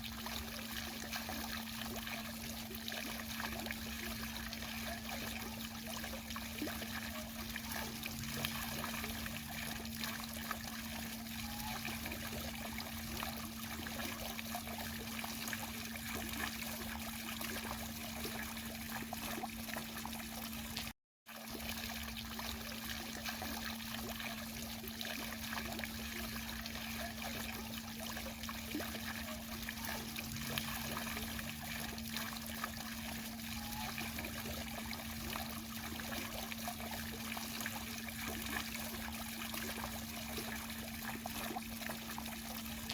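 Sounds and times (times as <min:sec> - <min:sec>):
constant low hum: 0:00.0 - 0:20.9, 0:21.6 - 0:42.9
fountain water trickling: 0:00.0 - 0:42.9.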